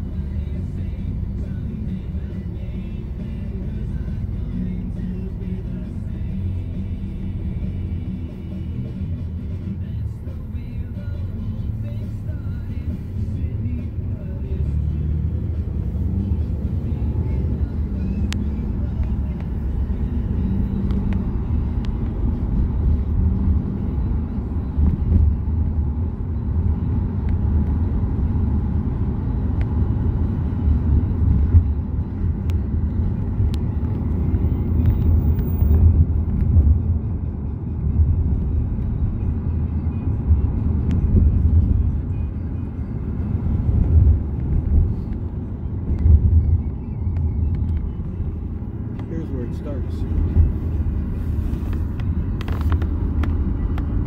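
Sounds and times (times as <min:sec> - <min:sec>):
vehicle engine and tyre rumble: 0:00.0 - 0:54.0.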